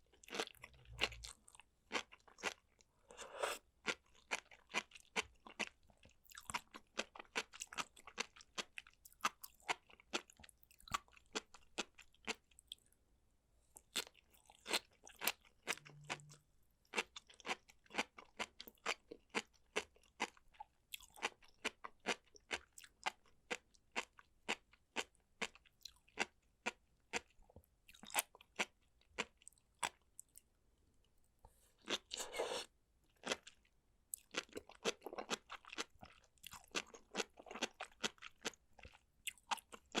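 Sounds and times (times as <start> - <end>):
chewing and biting food: 0.0 - 12.8, 13.9 - 30.4, 31.8 - 40.0.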